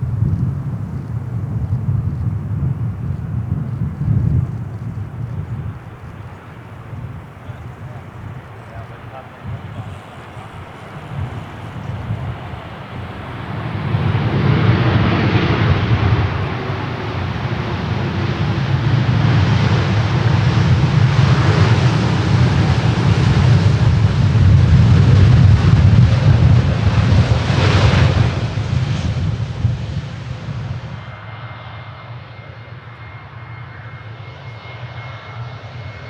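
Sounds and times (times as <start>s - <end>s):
jet airliner passing: 0.0s - 36.0s.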